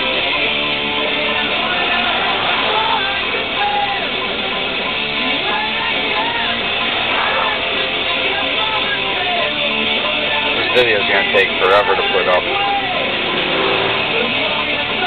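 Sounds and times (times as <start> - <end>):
person singing: 0.0 - 13.2, 13.8 - 15.0
rock song on radio: 0.0 - 15.0
strummed electric guitar: 0.0 - 15.0.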